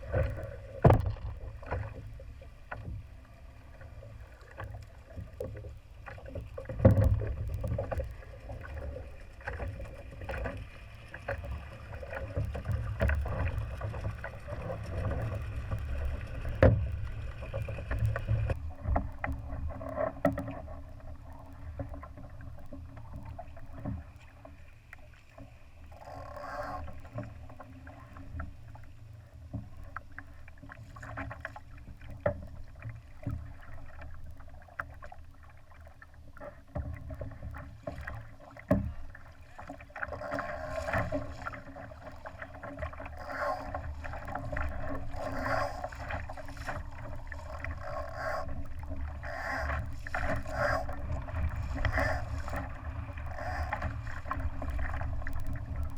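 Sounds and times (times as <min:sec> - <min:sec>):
water splashing against hull: 0:00.0 - 0:55.9.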